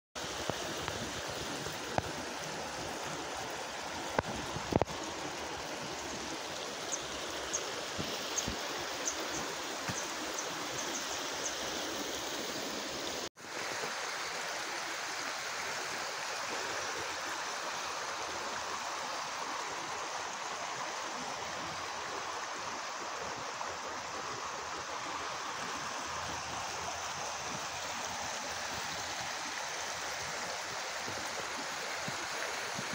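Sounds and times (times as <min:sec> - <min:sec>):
river rushing over rocks: 0:00.2 - 0:32.9.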